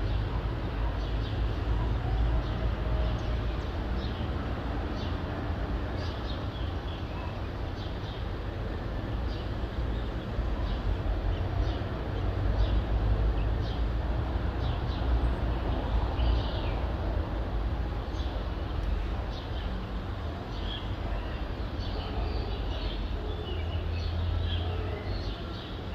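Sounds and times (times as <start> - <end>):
distant traffic rumble: 0.0 - 25.9.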